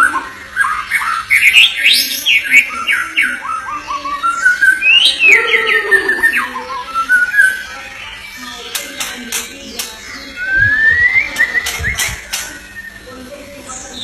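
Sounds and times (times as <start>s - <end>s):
bird singing whistled notes: 0.0s - 8.8s, 9.6s - 14.0s.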